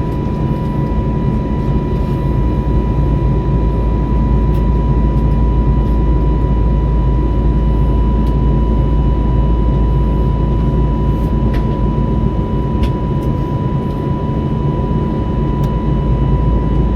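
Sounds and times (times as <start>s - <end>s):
aircraft engines rumbling: 0.0s - 16.9s.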